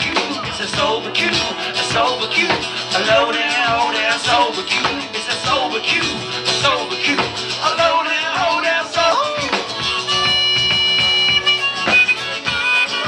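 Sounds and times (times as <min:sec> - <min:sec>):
acoustic guitar strumming: 0:00.0 - 0:13.0
drum kit playing: 0:00.0 - 0:13.0.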